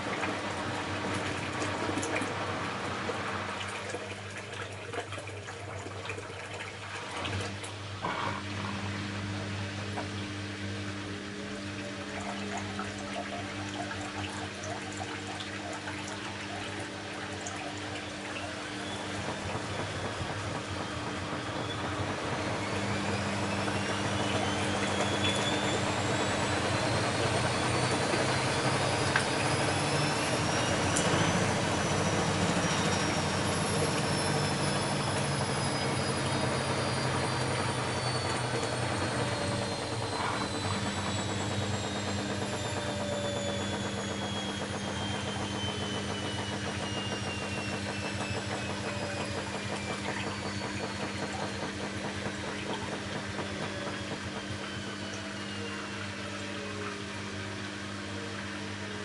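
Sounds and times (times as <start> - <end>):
washing machine hum: 0.0 - 59.0
washing machine motor whine: 0.0 - 59.0.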